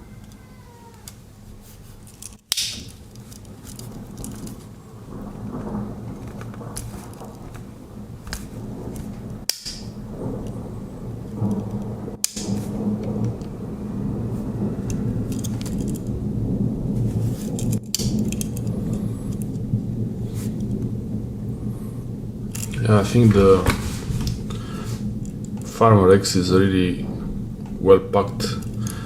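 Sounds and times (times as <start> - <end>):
low rumble: 2.8 - 29.0.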